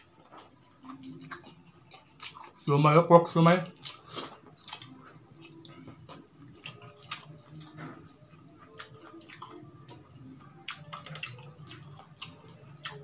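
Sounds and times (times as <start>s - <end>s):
man chewing food: 0.0s - 13.0s.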